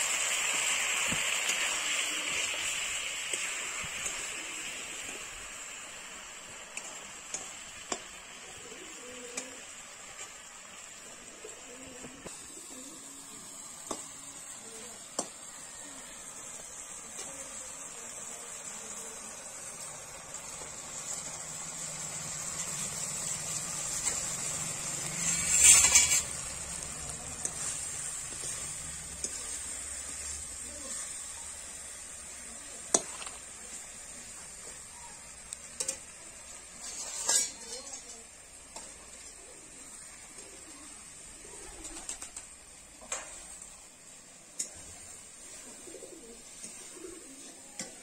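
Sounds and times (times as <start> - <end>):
curry sizzling in a wok: 0.0 - 48.0.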